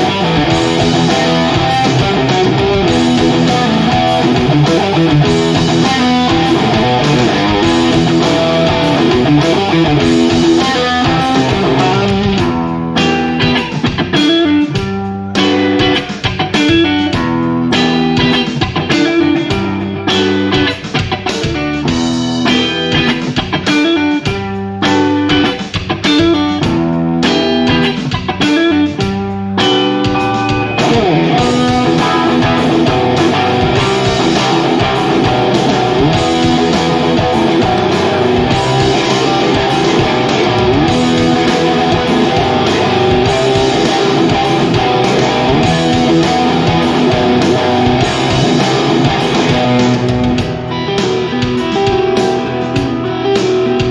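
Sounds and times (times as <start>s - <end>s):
electric guitar rock riffing: 0.0s - 53.9s.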